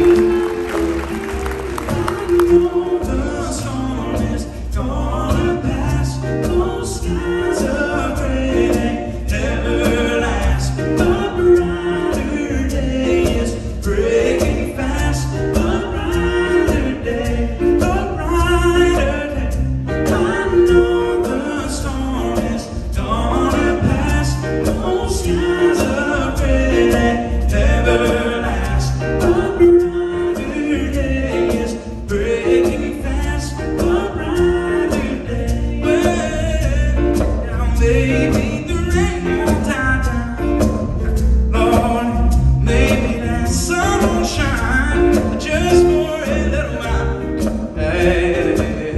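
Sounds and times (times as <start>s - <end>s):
person singing: 0.0s - 40.9s, 41.5s - 48.9s
acoustic guitars: 0.0s - 48.9s.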